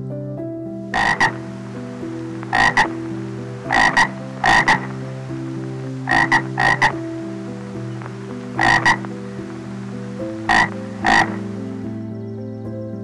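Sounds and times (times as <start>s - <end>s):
frog croaking: 0.9s - 12.0s
low shifting tones: 1.0s - 12.0s.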